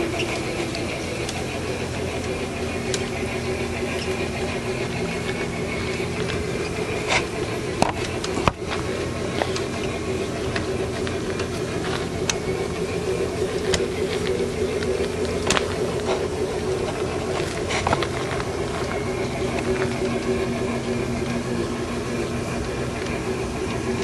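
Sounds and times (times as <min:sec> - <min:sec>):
model train motor whirring: 0:00.0 - 0:24.0
wheels rattling on rails: 0:00.0 - 0:24.0.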